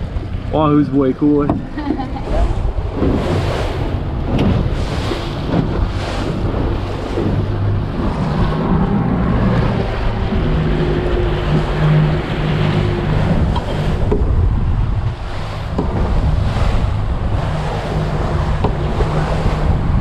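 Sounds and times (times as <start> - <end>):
outboard engine humming: 0.0 - 20.0
wake rushing along hull: 0.0 - 20.0
wind buffeting microphone: 0.0 - 20.0.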